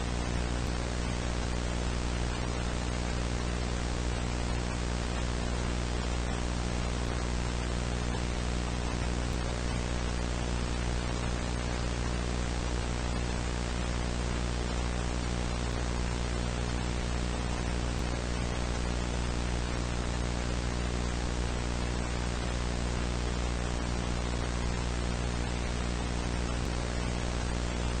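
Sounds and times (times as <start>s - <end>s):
low buzzing hum: 0.0s - 28.0s
static hiss: 0.0s - 28.0s.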